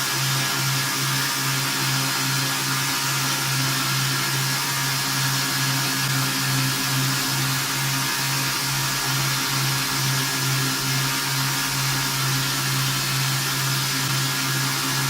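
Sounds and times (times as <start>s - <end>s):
belt grinder motor hum: 0.0s - 15.0s
grinder belt hissing: 0.0s - 15.0s.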